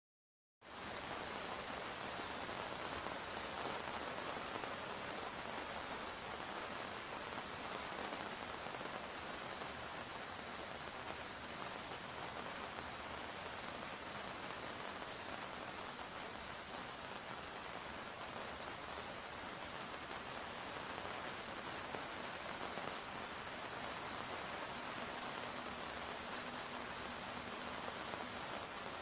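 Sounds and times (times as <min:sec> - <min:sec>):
rain on an umbrella: 0:00.6 - 0:29.0.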